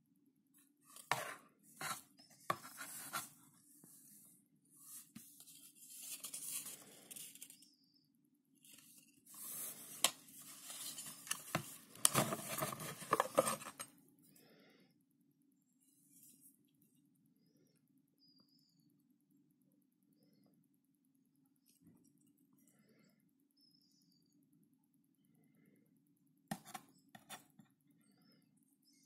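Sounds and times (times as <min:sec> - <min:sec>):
faint low hum: 0:00.6 - 0:29.0.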